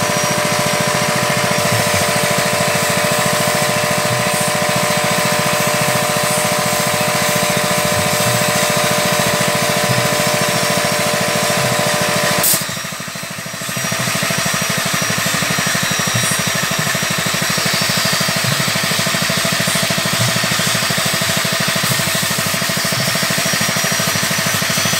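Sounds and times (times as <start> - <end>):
machine motor humming: 0.0 - 24.9.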